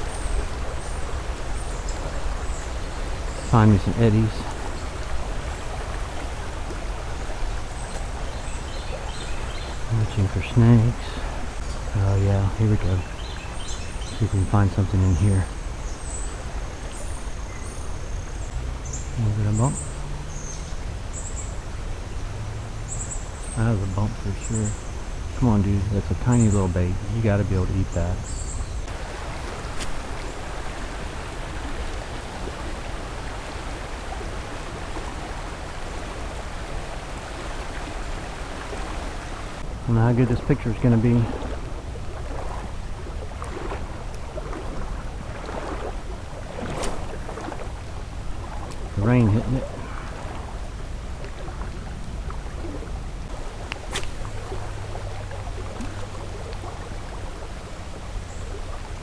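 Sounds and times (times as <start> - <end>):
creek rushing: 0.0 - 59.0
rain falling on water: 0.0 - 59.0.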